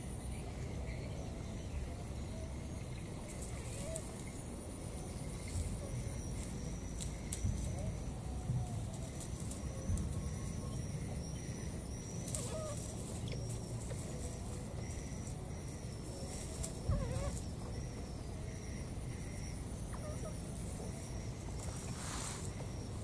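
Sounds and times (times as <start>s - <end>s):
wavering animal calls: 2.1s - 22.9s.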